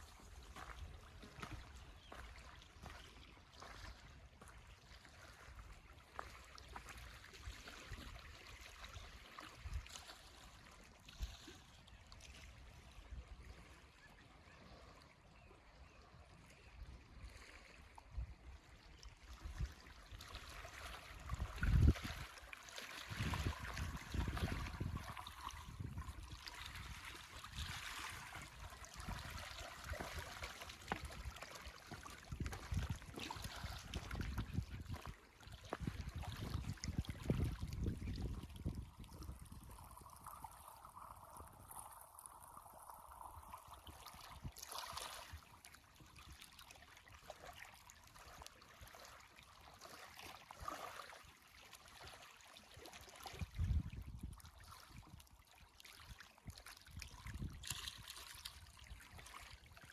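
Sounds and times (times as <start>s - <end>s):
water trickling in a stream: 0.0s - 59.9s.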